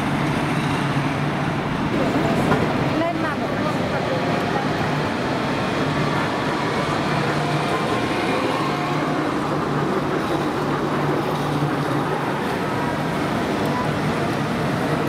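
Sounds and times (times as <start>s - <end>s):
street noise: 0.0s - 15.0s
tram electric hum: 0.0s - 15.0s.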